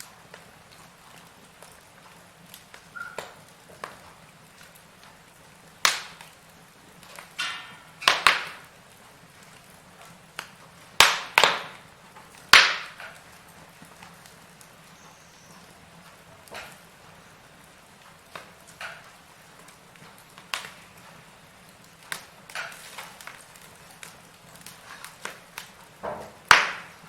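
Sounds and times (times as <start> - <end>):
firewood crackling and popping: 0.0 - 27.0.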